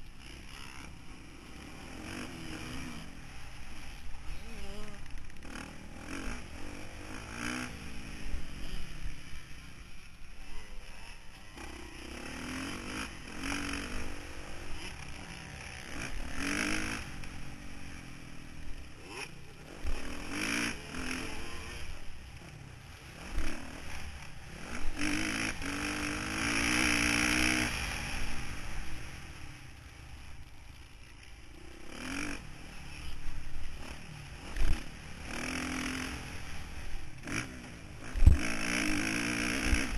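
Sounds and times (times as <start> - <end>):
motocross bike engine revving: 0.1 - 30.2, 30.8 - 39.9.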